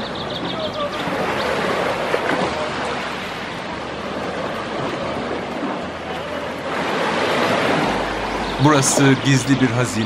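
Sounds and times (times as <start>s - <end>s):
small waves lapping on shore: 0.0s - 10.0s.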